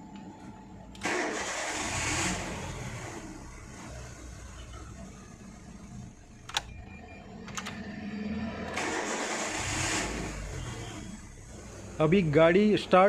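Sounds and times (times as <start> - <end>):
car engine starting: 0.8 - 13.0.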